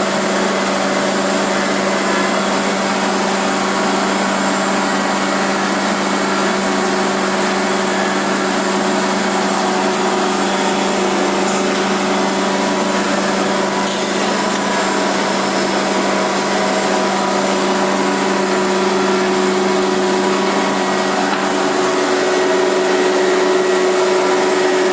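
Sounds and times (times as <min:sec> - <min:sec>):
milling machine whirring: 0:00.0 - 0:24.9.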